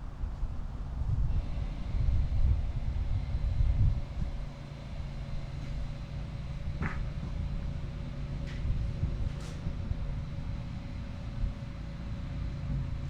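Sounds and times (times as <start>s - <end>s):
motor rumbling: 0.2s - 13.0s.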